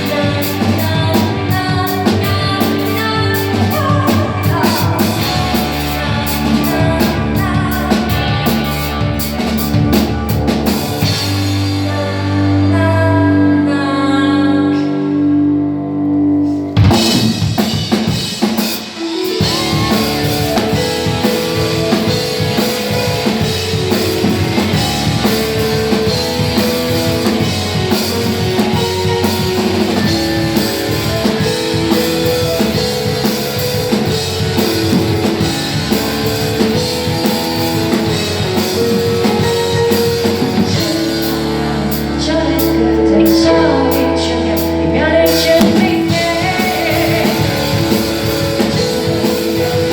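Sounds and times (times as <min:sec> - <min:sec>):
drum kit: 0:00.0 - 0:12.7, 0:16.3 - 0:49.9
person singing: 0:00.0 - 0:15.6, 0:18.5 - 0:49.9
live rock band: 0:00.0 - 0:49.9.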